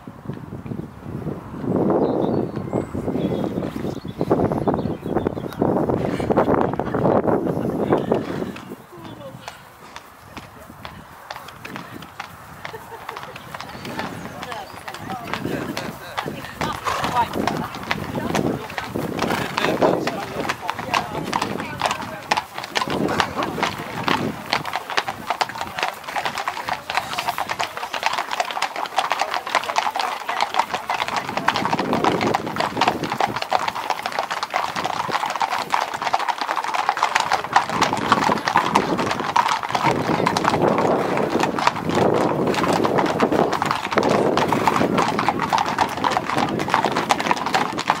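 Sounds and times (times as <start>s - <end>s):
horse hooves clip-clopping on tarmac: 3.4s - 48.0s.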